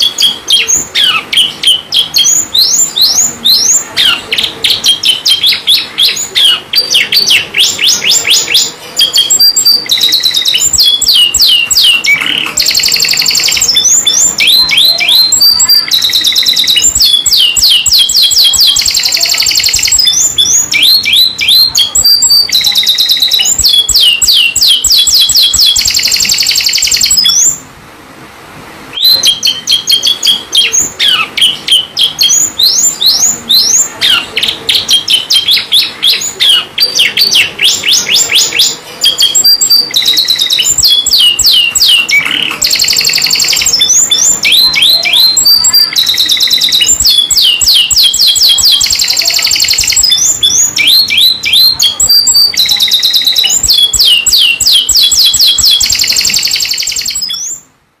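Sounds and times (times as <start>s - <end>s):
canary singing trills: 0.0s - 27.7s, 28.9s - 57.8s.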